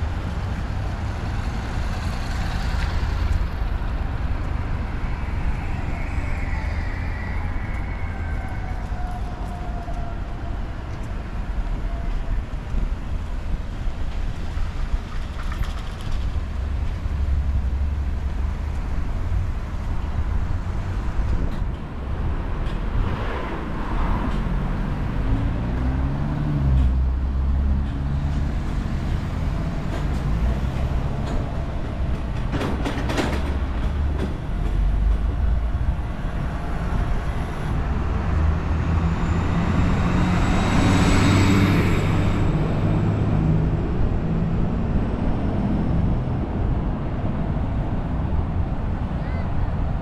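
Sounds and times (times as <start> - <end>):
vehicles passing on street: 0.0 - 50.0.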